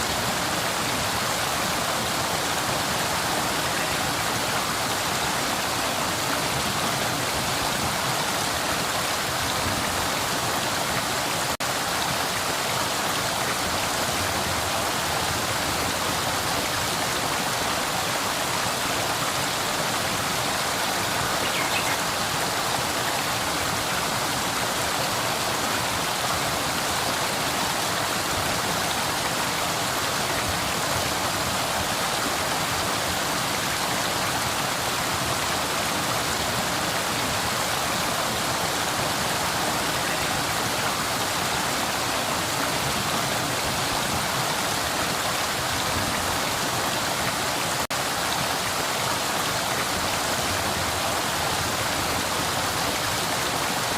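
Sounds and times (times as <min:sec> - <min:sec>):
river water flowing: 0:00.0 - 0:53.9.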